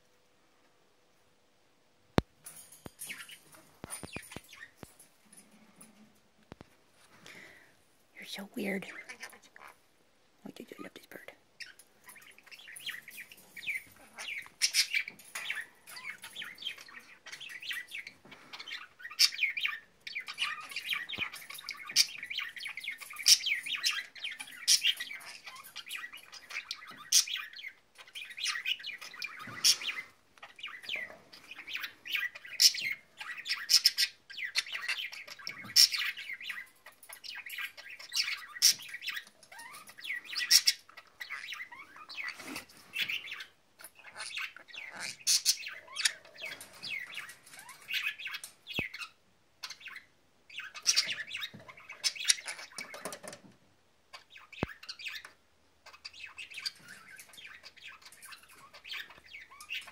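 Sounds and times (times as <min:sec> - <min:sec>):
parrot chirping and squawking: 0:03.0 - 0:05.0, 0:08.3 - 0:10.0, 0:10.7 - 0:53.4, 0:54.0 - 0:59.9.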